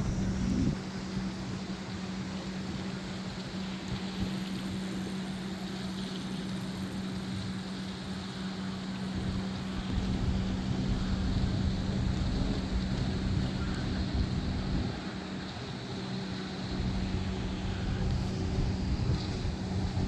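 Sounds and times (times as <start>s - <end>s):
open-air noise: 0.0s - 20.0s
steady engine hum: 0.0s - 20.0s.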